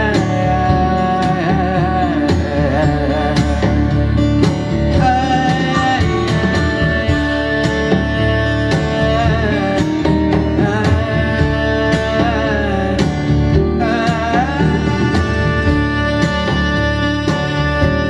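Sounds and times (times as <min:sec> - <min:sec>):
country song over speakers: 0:00.0 - 0:18.0.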